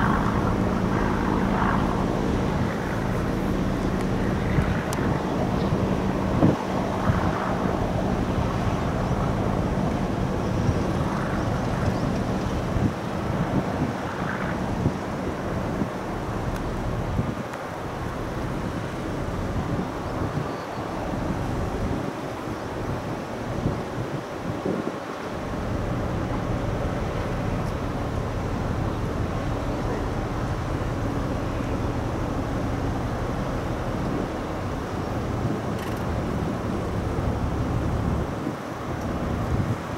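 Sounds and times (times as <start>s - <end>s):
constant hum: 0.0s - 39.9s
ship engines rumbling: 0.0s - 39.9s
wind buffeting microphone: 0.0s - 39.9s.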